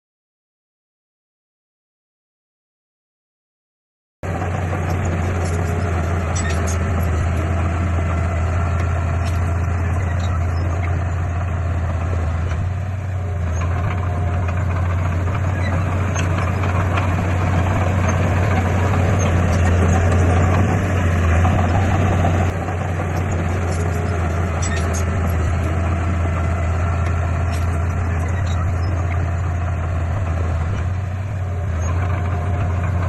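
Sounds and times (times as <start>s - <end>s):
heavy diesel engine droning: 4.2s - 33.0s.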